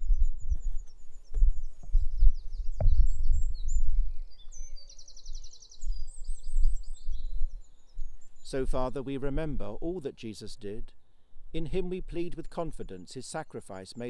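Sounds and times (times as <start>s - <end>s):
birds singing and chirping: 0.0s - 14.0s
low rumble of outdoor noise: 0.0s - 14.0s.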